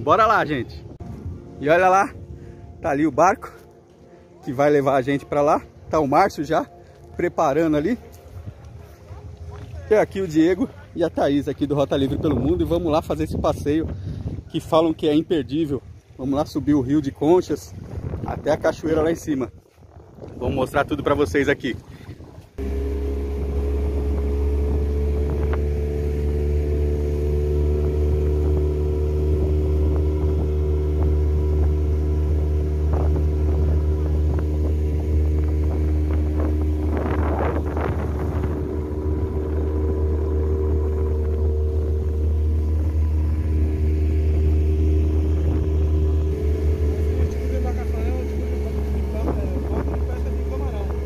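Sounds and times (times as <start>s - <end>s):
outboard motor droning: 0.0s - 51.0s.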